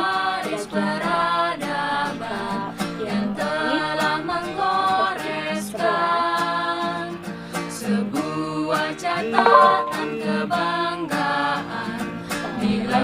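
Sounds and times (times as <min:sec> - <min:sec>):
unaccompanied voices singing harmony: 0:00.0 - 0:07.0, 0:08.0 - 0:13.0.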